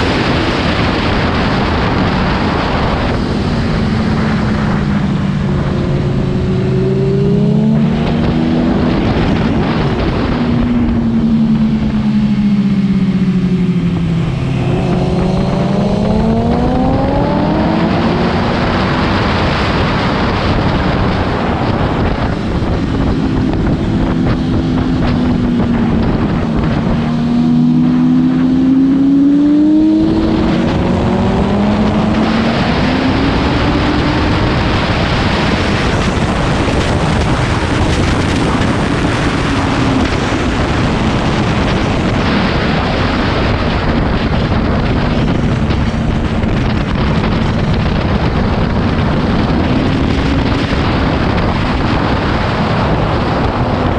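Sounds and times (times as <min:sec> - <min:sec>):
motorcycle engine running hard: 0:00.0 - 0:53.9
wind noise: 0:00.0 - 0:53.9.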